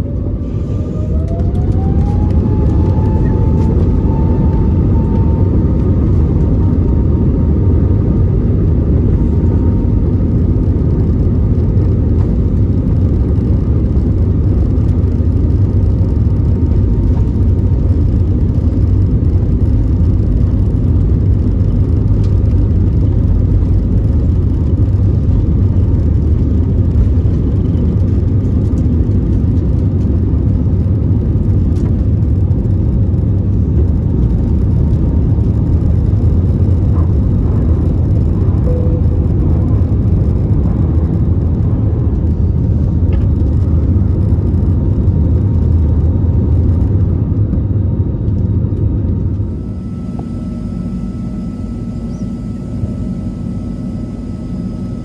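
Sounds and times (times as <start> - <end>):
aircraft engine rumble: 0.0 - 55.0
aircraft engine whine: 0.0 - 55.0.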